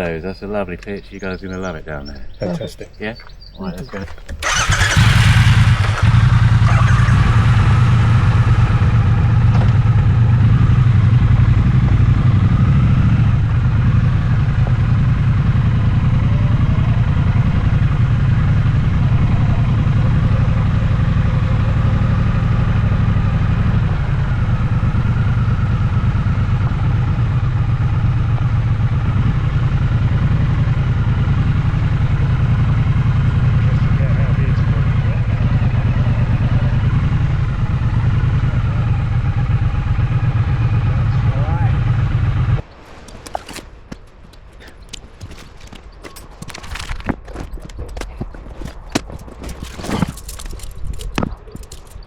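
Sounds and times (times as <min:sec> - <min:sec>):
motorcycle engine starting and idling: 0:03.6 - 0:42.6, 0:43.3 - 0:52.0.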